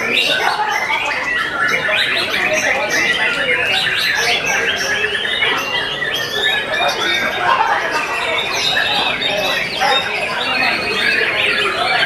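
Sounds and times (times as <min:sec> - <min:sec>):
birds singing whistles and chirps: 0:00.0 - 0:12.0.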